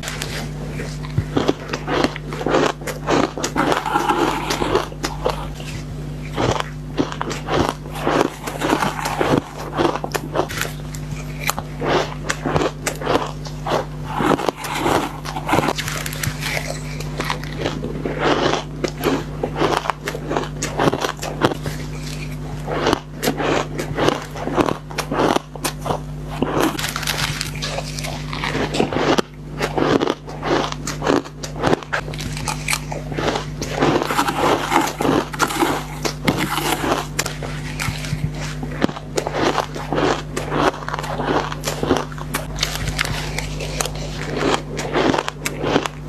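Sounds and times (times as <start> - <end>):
shaved ice being crunched: 0.0 - 46.0
steady low hum: 0.0 - 46.0.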